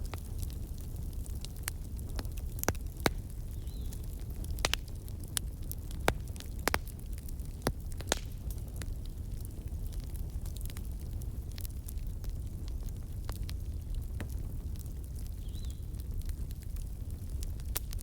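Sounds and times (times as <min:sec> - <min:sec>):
fire crackling and popping: 0:00.0 - 0:18.0
low rumble of fire: 0:00.0 - 0:18.0.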